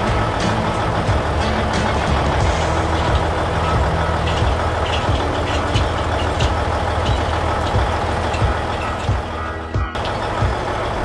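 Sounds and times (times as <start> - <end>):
harvester engine humming: 0.0 - 11.0.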